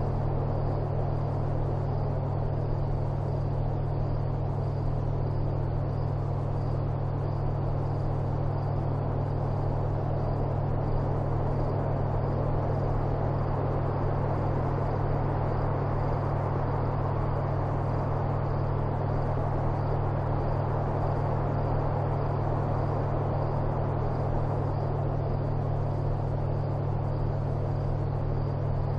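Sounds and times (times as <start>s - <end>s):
low rumbling drone with hiss: 0.0s - 28.9s.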